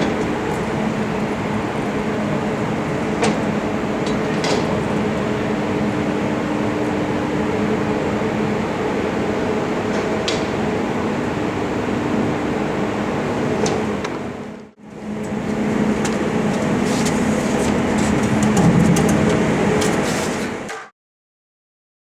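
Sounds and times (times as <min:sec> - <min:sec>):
machinery hum with rushing air: 0:00.0 - 0:20.8.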